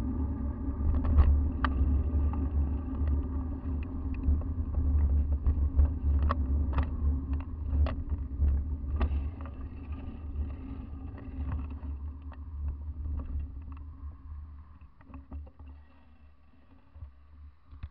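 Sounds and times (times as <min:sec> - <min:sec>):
bicycle road rumble: 0:00.0 - 0:17.9.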